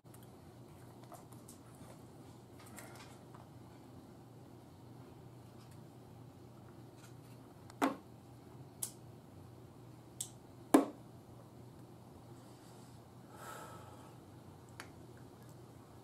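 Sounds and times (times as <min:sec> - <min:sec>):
faint low hum: 0:00.1 - 0:16.0.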